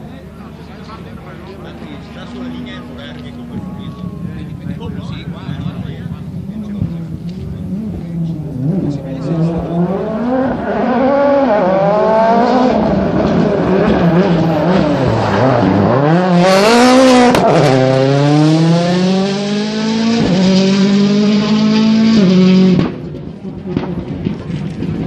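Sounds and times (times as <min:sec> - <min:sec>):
exhaust crack: 0:00.0 - 0:25.0
rally car engine revving: 0:00.0 - 0:25.0.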